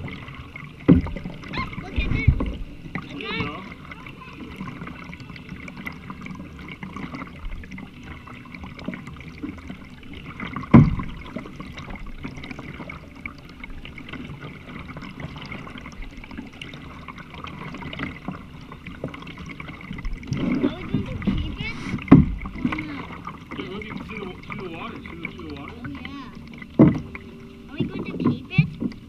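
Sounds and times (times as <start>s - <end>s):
water lapping around kayak: 0.0s - 29.0s.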